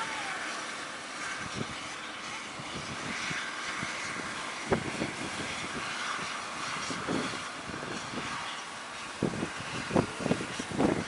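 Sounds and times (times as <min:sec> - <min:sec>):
strong wind blowing: 0:01.2 - 0:11.0
wind gusts thudding on microphone: 0:01.2 - 0:11.0.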